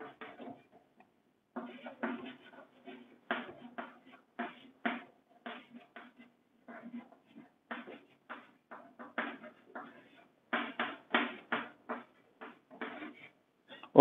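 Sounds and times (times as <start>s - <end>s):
chalk scratching on chalkboard: 0.0s - 0.8s, 1.6s - 13.4s.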